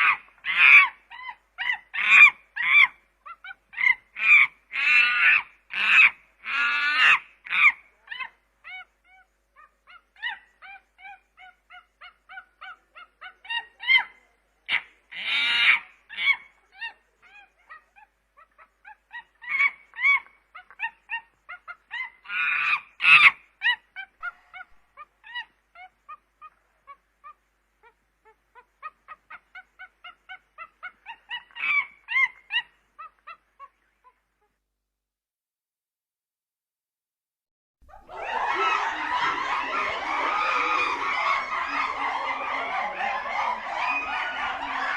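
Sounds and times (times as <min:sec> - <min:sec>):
chimpanzee calling: 0:00.0 - 0:34.6, 0:37.9 - 0:44.9.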